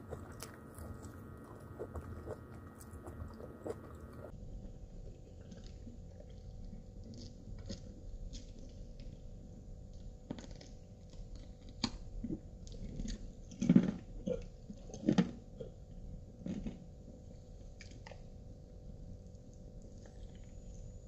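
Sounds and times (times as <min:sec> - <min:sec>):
sucking and chewing: 0:00.0 - 0:04.3, 0:04.9 - 0:09.3, 0:09.9 - 0:18.4, 0:19.1 - 0:21.0.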